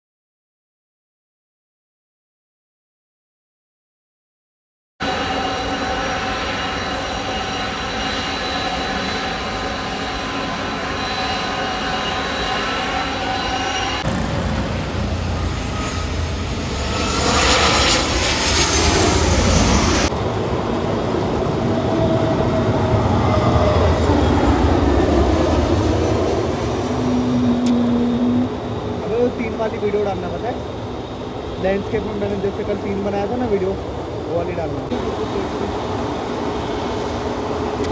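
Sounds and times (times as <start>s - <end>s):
jet engines whining and roaring: 5.0s - 37.9s.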